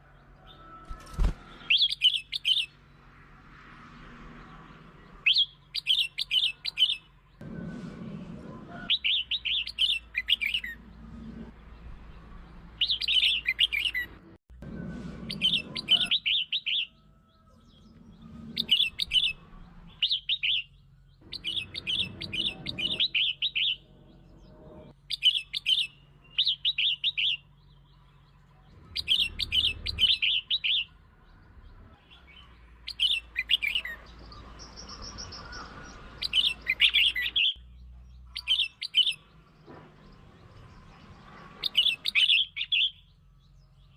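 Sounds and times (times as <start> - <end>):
bulbul singing: 0.0 - 3.0, 5.0 - 7.4, 8.8 - 14.2, 15.2 - 43.9.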